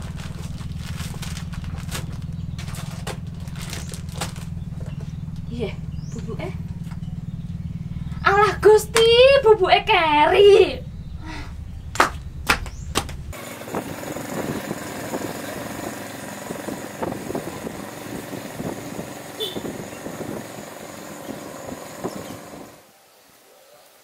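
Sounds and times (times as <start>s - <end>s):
small motorcycle engine running: 0.0s - 22.8s.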